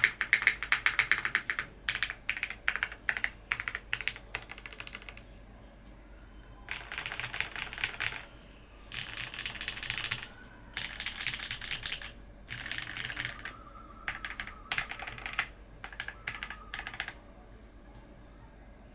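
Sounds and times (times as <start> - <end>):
keyboard typing: 0.0 - 5.4, 6.7 - 17.2.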